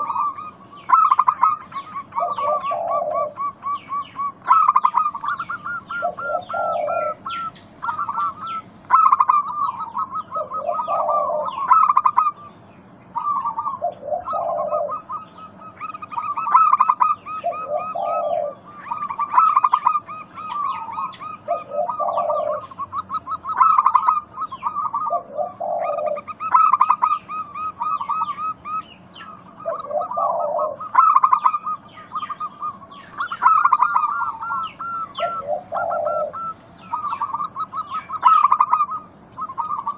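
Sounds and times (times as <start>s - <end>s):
birds chirping high-pitched: 0.0s - 39.9s
doves cooing: 0.0s - 39.9s.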